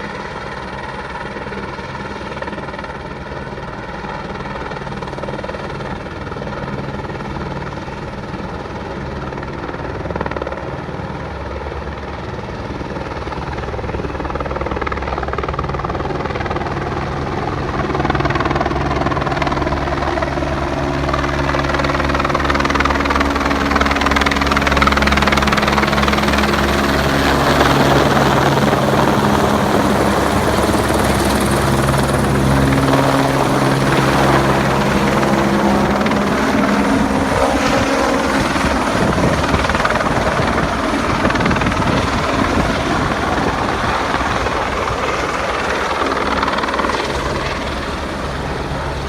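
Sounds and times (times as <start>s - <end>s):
helicopter rotor and turbine: 0.0s - 49.0s.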